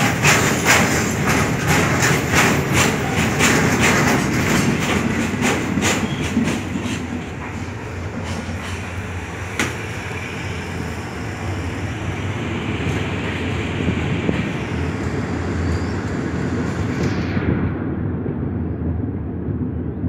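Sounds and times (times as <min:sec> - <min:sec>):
train rumbling slowly: 0:00.0 - 0:20.0.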